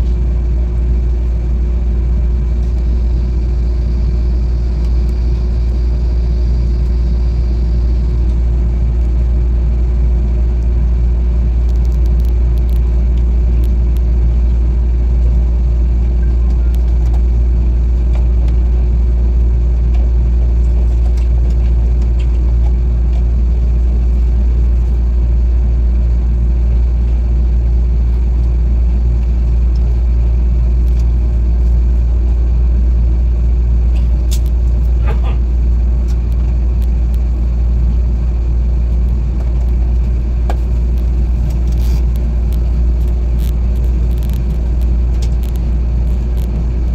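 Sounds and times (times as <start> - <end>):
constant hum: 0.0 - 46.9
train rumbling: 0.0 - 46.9.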